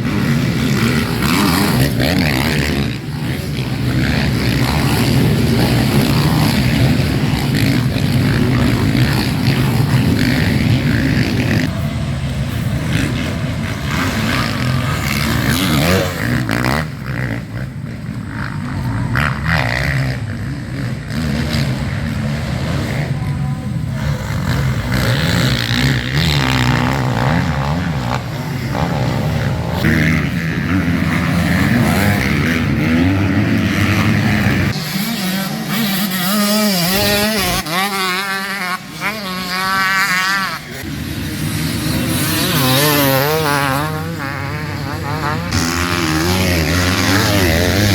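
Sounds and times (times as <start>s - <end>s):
motocross engines revving: 0.0s - 47.9s.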